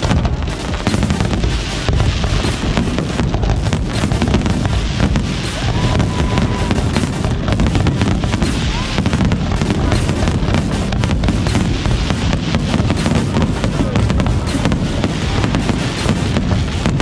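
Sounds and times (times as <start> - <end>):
deep fireworks booms: 0.0 - 17.0
fireworks bangs and crackles: 0.0 - 17.0.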